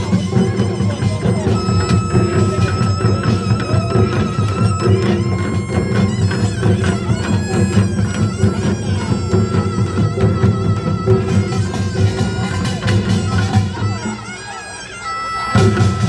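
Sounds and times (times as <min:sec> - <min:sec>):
gongs and drums: 0:00.0 - 0:16.0
wavering wind melody: 0:00.0 - 0:16.0.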